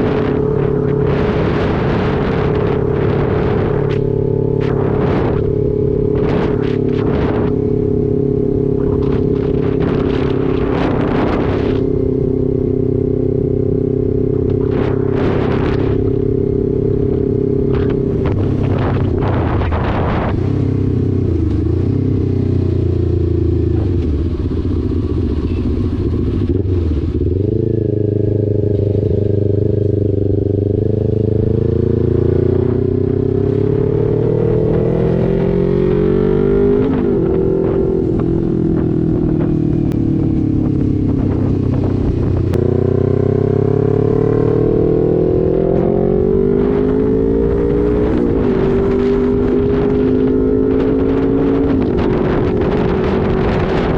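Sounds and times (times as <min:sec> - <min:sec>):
wind buffeting microphone: 0:00.0 - 0:25.2, 0:25.9 - 0:53.9
motorcycle engine running: 0:00.0 - 0:53.9.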